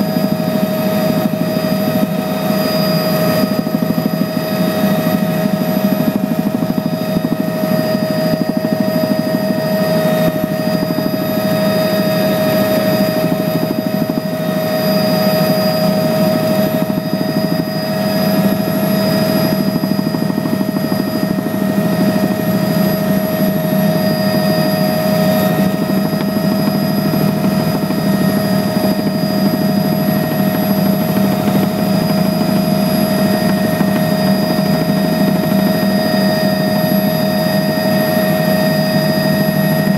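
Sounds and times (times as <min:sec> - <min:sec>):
small aircraft engine drone: 0:00.0 - 0:39.9.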